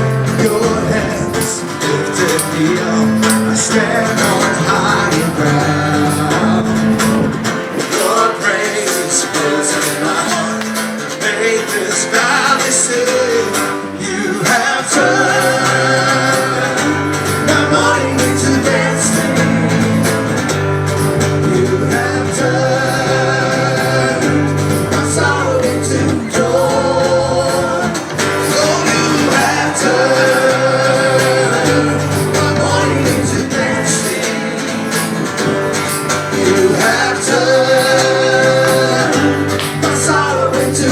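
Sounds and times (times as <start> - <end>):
bass line: 0.0 - 8.4, 14.5 - 40.9
person singing: 0.0 - 20.5, 21.1 - 40.9
guitar: 0.0 - 40.9.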